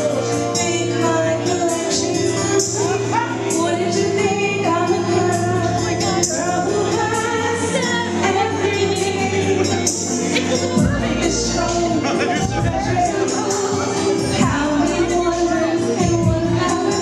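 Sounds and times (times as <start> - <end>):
backing music with steady beat: 0.0 - 17.0
woman singing into microphone: 0.0 - 17.0.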